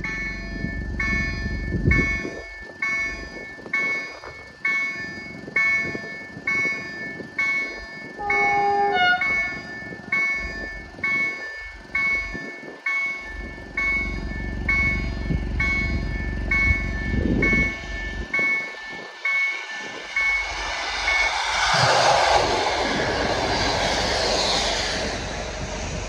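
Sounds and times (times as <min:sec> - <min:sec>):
level crossing warning bell: 0:00.0 - 0:21.3
low rumble: 0:00.0 - 0:26.0.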